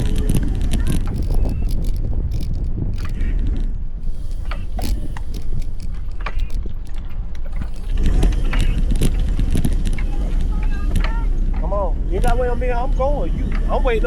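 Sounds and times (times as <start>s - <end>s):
short rattles and clicks: 0.0s - 12.9s
wind rumble on microphone: 0.0s - 14.0s.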